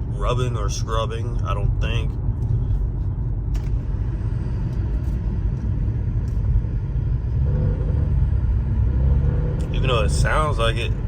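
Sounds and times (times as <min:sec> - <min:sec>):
car engine and raspy exhaust: 0:00.0 - 0:11.0.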